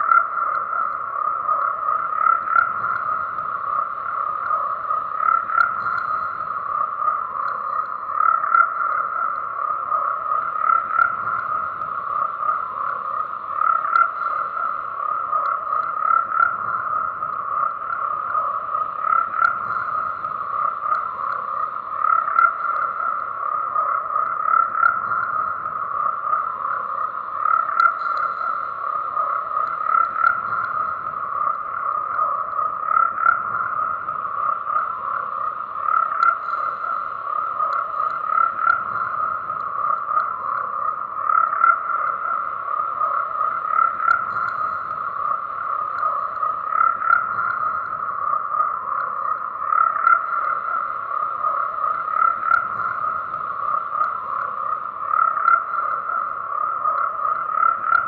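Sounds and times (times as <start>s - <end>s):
frogs croaking: 0.0s - 58.0s.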